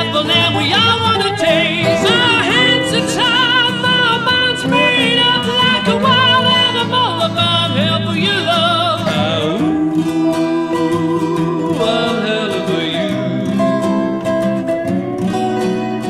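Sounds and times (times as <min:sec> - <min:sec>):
man singing: 0:00.0 - 0:14.3
resonator guitar: 0:00.0 - 0:16.0
strummed acoustic guitar: 0:00.0 - 0:16.0.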